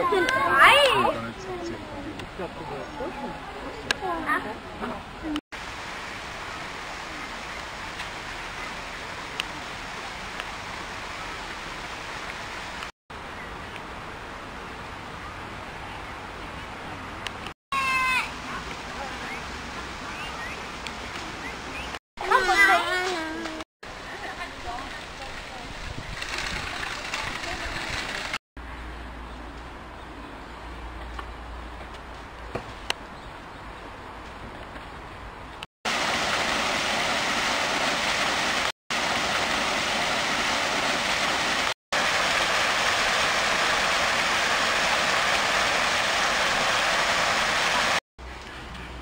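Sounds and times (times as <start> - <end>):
outdoor background hiss: 0.0 - 26.2, 28.6 - 49.0.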